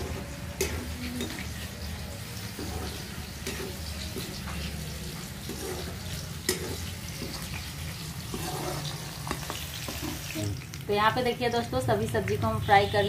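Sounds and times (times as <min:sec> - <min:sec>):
vegetables sizzling in ghee: 0:00.0 - 0:13.0.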